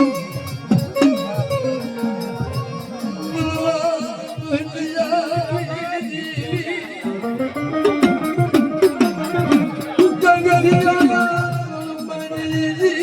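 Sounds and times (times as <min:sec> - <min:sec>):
hand drum beating: 0:00.0 - 0:13.0
ornamented folk melody: 0:00.0 - 0:13.0.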